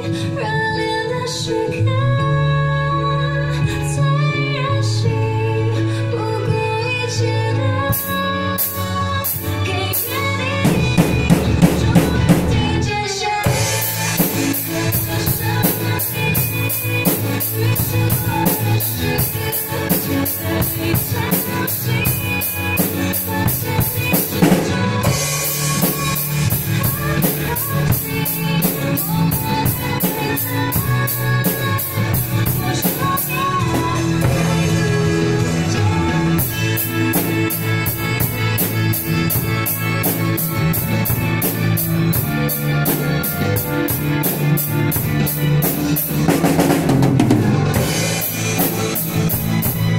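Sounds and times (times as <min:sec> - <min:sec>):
pop backing track with guitar: 0:00.0 - 0:49.9
drum kit playing: 0:07.9 - 0:49.9.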